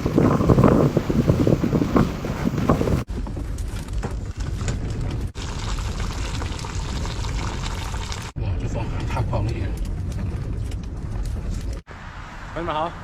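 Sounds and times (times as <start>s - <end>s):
strong wind buffeting microphone: 0.0s - 11.9s.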